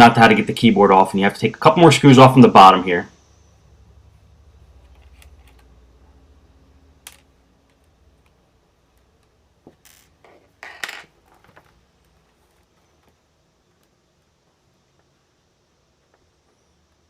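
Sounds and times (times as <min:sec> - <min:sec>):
faint low buzz: 0:01.5 - 0:17.0.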